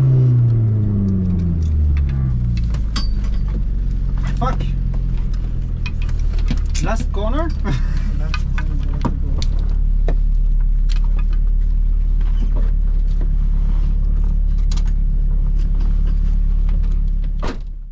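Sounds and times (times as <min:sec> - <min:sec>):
car engine running steadily: 0:00.0 - 0:17.9.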